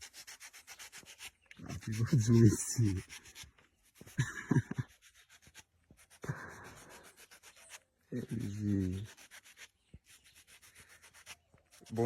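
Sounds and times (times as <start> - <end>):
rough rubbing or scraping: 0.0 - 12.0.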